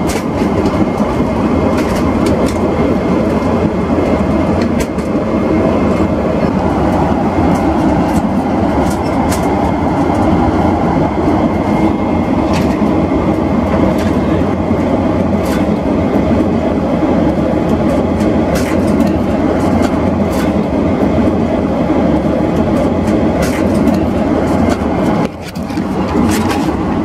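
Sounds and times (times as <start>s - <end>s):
airliner cabin noise: 0.0s - 27.0s.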